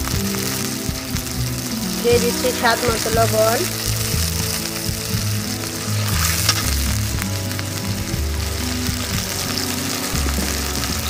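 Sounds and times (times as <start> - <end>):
background music with low bass: 0.0 - 11.0
paste sizzling in oil: 0.0 - 11.0.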